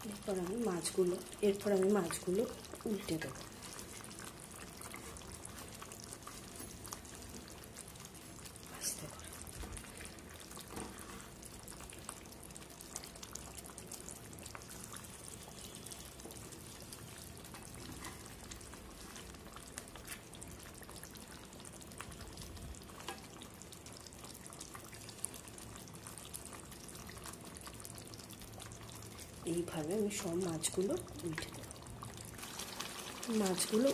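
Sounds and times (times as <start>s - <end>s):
curry bubbling: 0.0s - 33.9s.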